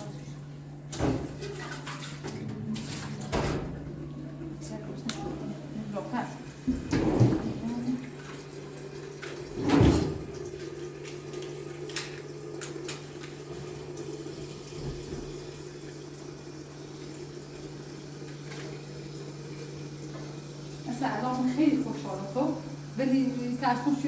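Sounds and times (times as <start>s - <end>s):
water running in kitchen: 0.0s - 24.0s.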